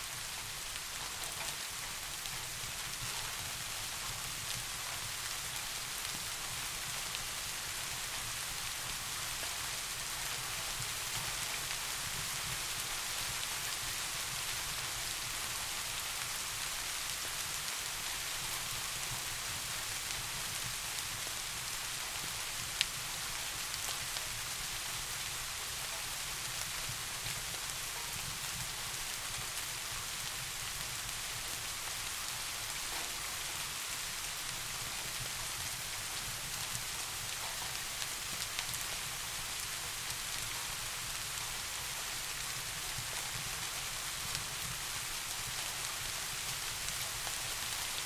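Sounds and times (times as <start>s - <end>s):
soft rain falling: 0.0s - 48.0s.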